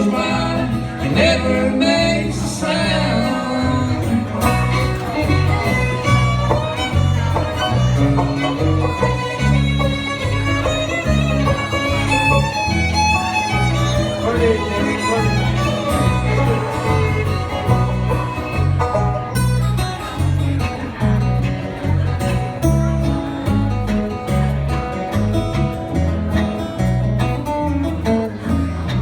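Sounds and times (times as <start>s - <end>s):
fiddle melody: 0.0s - 23.9s
bass line: 0.0s - 29.0s
guitar: 0.0s - 29.0s.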